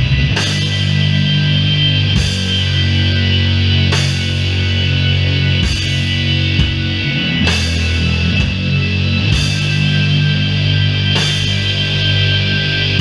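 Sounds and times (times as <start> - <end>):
heavy sustained guitar chords: 0.0 - 13.0.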